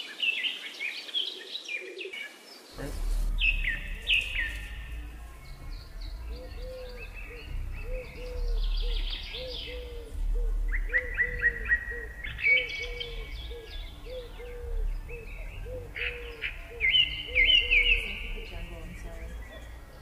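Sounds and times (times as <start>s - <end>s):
birds chirping and trilling: 0.0s - 20.0s
short low bird note: 2.8s - 19.7s.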